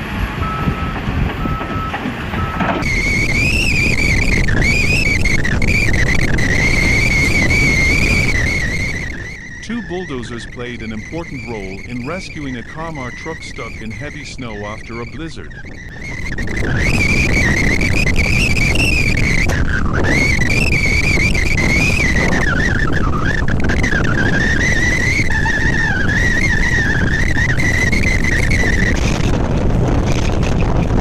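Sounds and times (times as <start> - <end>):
heavy machinery engines: 0.0 - 31.0
high wavering whine: 2.8 - 31.0.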